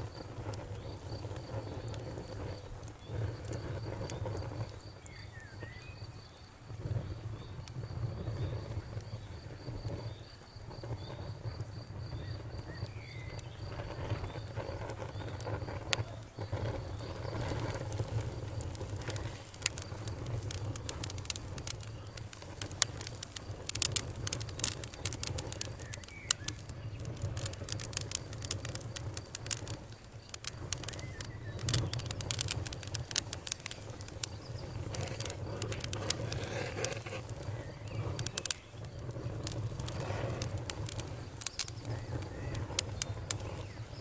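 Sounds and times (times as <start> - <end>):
low rumble of flames: 0.0 - 44.0
wood crackling and popping: 0.0 - 44.0.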